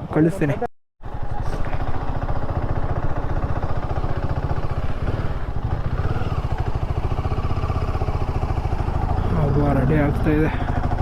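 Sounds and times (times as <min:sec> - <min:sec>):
motorcycle engine idling: 0:01.0 - 0:11.0.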